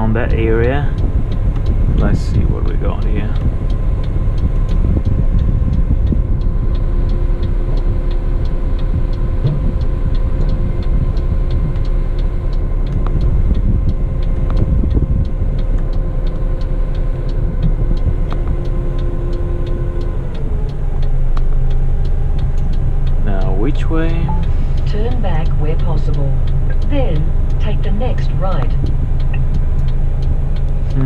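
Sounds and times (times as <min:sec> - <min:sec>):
diesel truck engine rumbling: 0:00.0 - 0:31.0
faint fast ticking: 0:00.0 - 0:31.0.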